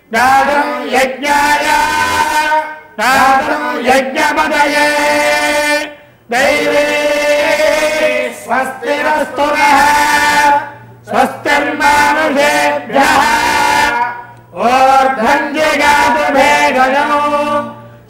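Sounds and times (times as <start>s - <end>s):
men chanting hymns: 0.0s - 18.0s.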